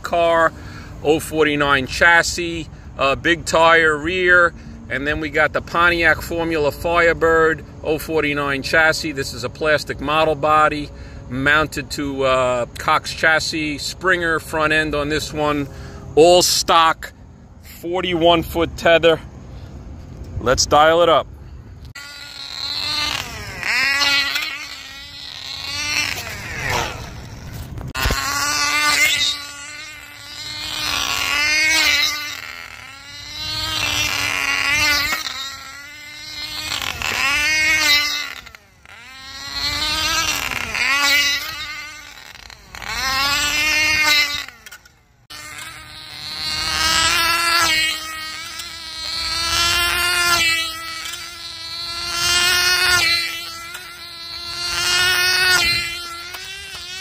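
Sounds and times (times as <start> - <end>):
model engine high whine: 0.0 - 57.0.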